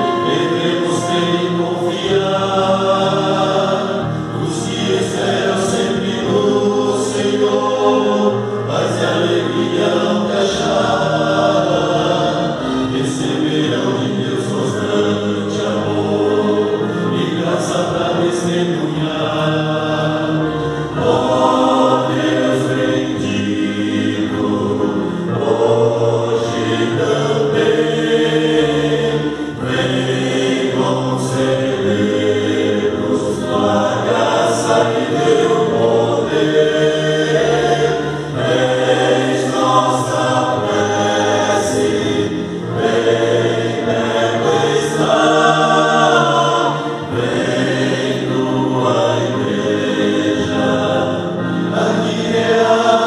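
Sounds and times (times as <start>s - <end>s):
male choir singing a hymn: 0.0s - 53.0s.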